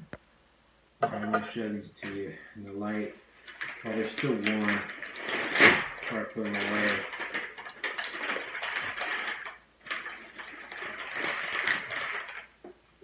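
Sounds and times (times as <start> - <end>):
paper crinkling and rustling: 1.9 - 12.6.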